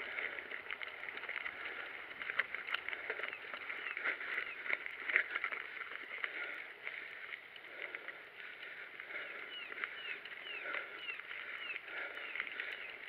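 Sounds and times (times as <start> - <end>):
bike rattling over bumps: 0.0 - 13.0
bike tyres on gravel trail: 0.0 - 13.0.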